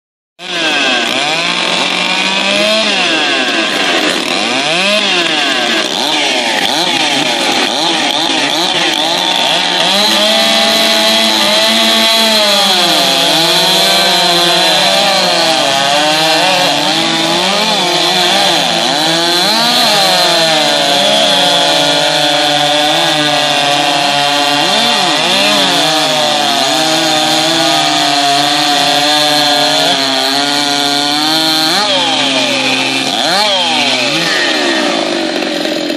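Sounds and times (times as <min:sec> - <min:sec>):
chainsaws cutting timber: 0:00.4 - 0:35.9.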